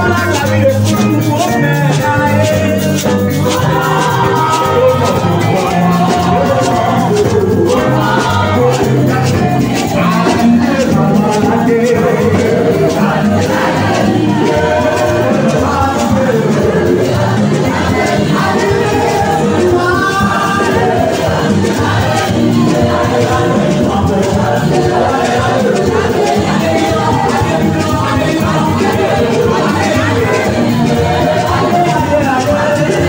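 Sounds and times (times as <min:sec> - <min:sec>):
bass guitar line: 0:00.0 - 0:33.0
choir and lead singers singing: 0:00.0 - 0:33.0
hand-drum percussion: 0:00.0 - 0:33.0
live band playing: 0:00.0 - 0:33.0.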